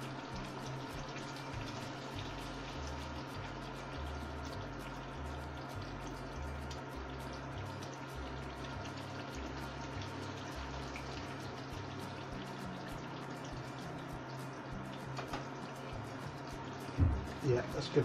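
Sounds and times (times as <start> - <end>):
sauce bubbling and popping: 0.1 - 17.9.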